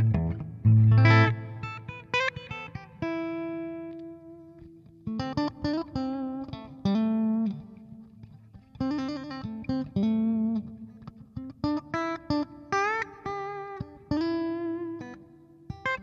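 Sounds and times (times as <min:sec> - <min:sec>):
electric guitar melody: 0:00.0 - 0:16.0.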